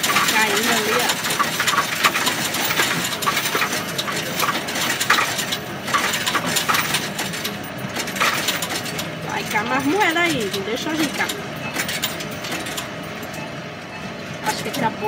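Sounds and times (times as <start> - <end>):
coins clattering through counting machine: 0.0 - 13.5, 14.5 - 15.0.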